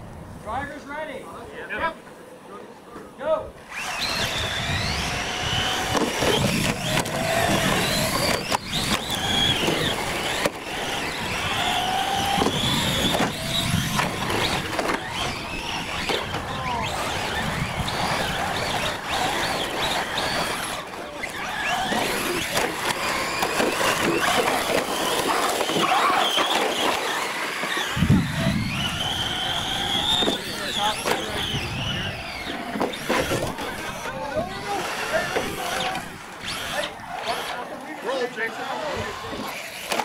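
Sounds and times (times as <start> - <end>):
high motor whines: 3.6 - 40.0.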